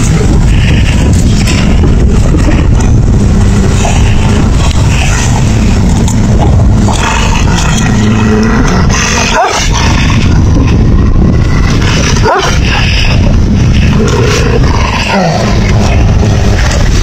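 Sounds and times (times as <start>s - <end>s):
wolves growling and snarling: 0.0s - 17.0s.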